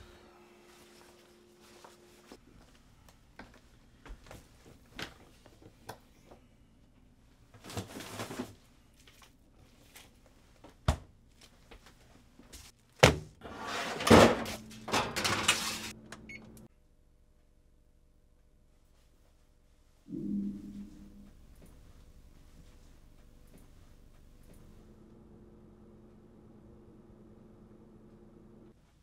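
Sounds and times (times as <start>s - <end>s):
faint room hum: 0.0s - 29.0s.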